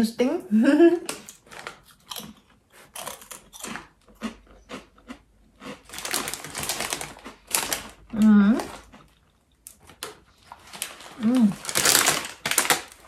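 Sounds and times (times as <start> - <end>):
chip bag crinkling: 1.1 - 13.0
chip crunching and chewing: 1.1 - 13.0.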